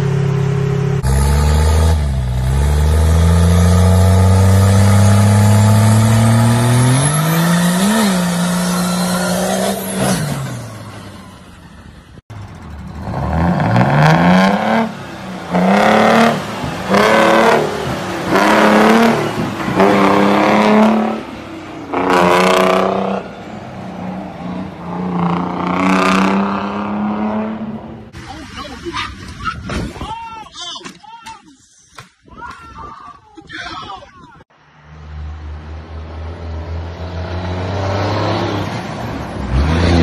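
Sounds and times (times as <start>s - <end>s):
truck engine revving: 0.0s - 28.9s, 34.5s - 40.0s
diesel dump truck accelerating: 0.0s - 29.7s, 34.5s - 40.0s.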